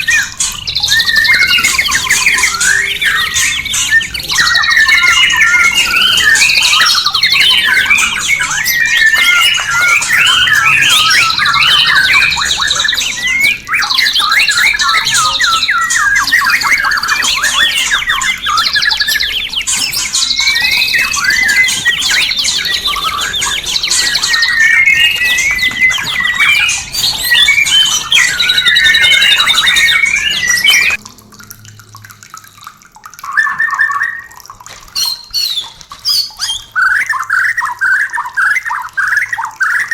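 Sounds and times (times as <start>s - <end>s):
bird singing whistles and trills: 0.0s - 31.0s, 33.2s - 39.9s.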